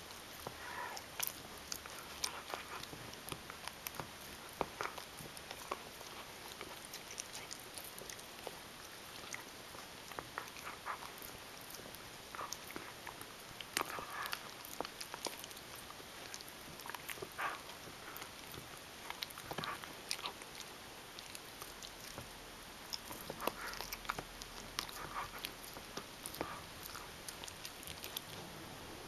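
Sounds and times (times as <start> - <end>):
dog gnawing a hard bone: 0.0 - 28.4
dog licking: 0.0 - 28.4.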